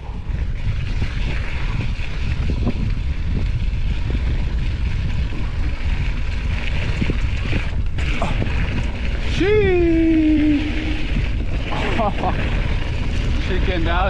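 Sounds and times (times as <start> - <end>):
wind buffeting microphone: 0.0 - 14.0
tyres rolling on dirt: 0.3 - 14.0.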